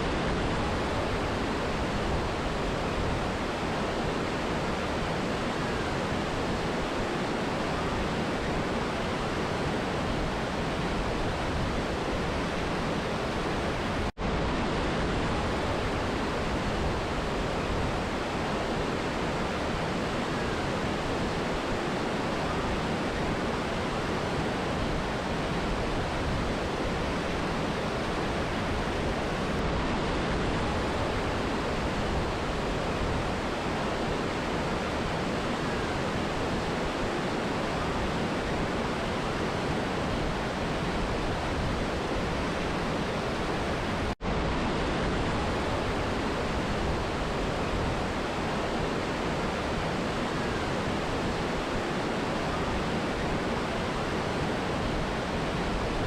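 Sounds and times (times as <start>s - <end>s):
river and waterfall rushing: 0.0s - 56.0s.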